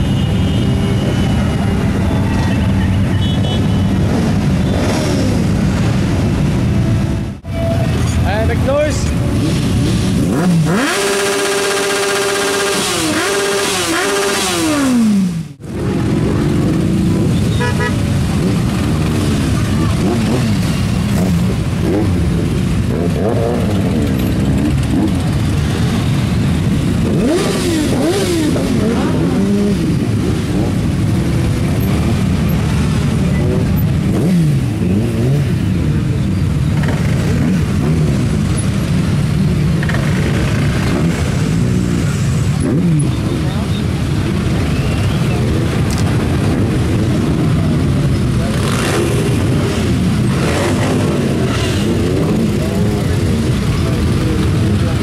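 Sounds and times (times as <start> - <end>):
motorcycle engines idling and revving: 0.0 - 55.0.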